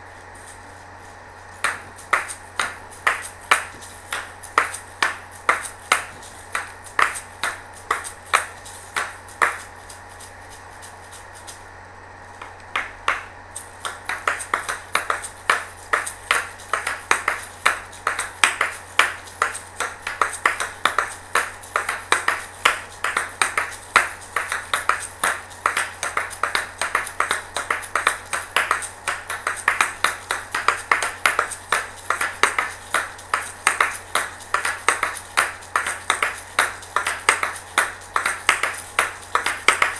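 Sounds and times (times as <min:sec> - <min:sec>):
shaker shells clicking: 0:00.1 - 0:11.7, 0:12.3 - 0:39.9.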